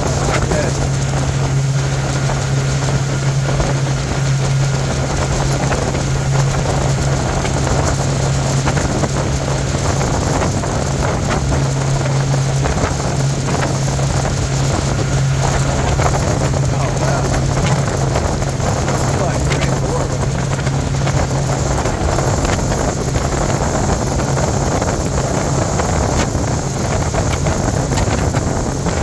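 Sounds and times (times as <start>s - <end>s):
motorboat engine drone: 0.0s - 29.0s
rushing water: 0.0s - 29.0s
wind noise on microphone: 0.0s - 29.0s.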